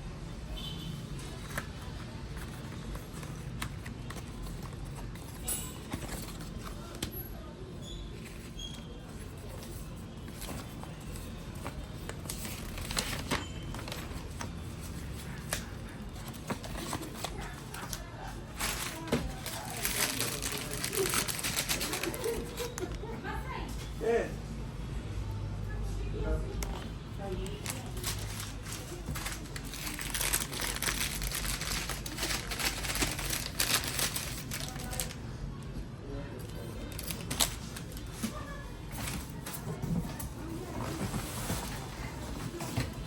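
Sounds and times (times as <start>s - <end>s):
cardboard and plastic crinkling: 1.2s - 7.5s, 8.1s - 23.1s, 26.6s - 35.2s, 36.4s - 43.0s.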